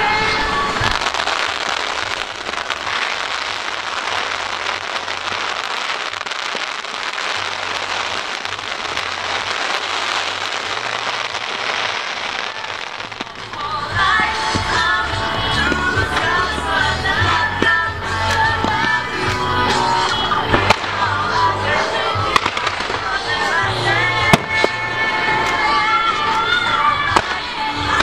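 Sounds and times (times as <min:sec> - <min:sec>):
fireworks crackling: 0:00.0 - 0:28.0
music with singing: 0:00.0 - 0:28.0.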